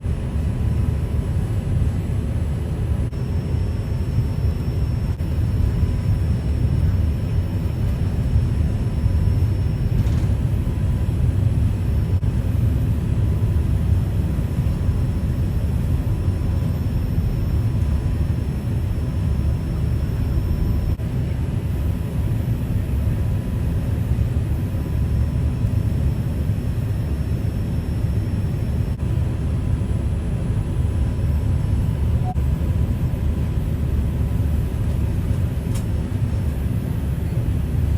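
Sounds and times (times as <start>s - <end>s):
airliner taxiing rumble: 0.0s - 37.9s
engine whine: 0.0s - 37.9s.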